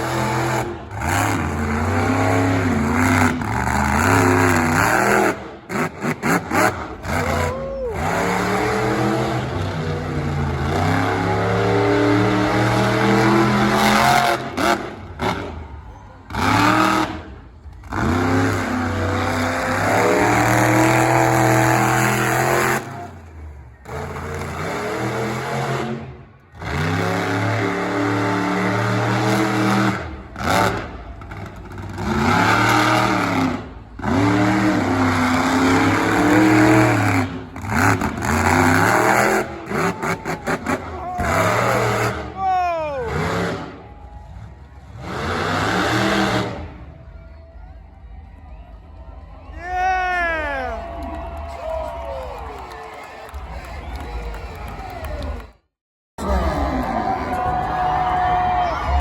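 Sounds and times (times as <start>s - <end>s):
monster truck engine revving: 0.0s - 48.9s, 56.2s - 59.0s.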